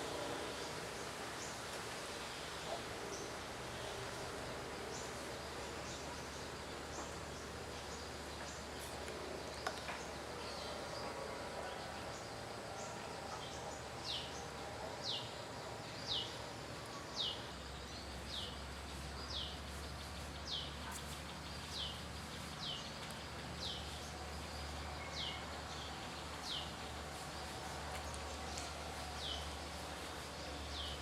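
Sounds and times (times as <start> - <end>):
faint outdoor background noise: 0.0 - 31.0.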